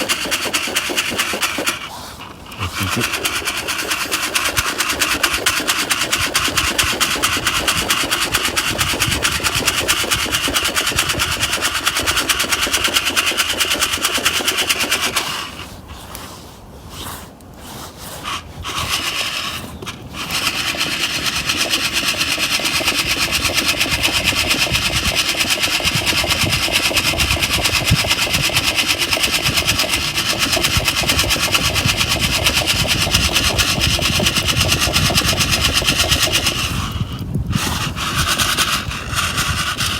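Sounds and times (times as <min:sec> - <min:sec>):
coffee beans rattling in metal cup: 0:00.0 - 0:15.8, 0:18.2 - 0:39.9.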